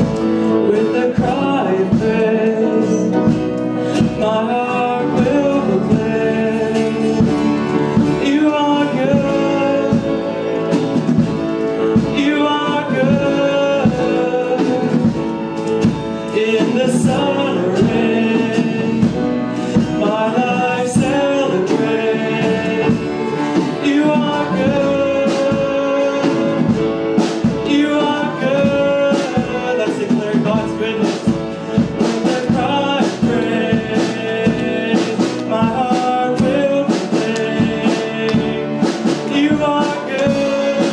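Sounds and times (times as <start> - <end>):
song with guitar band: 0.0 - 40.9.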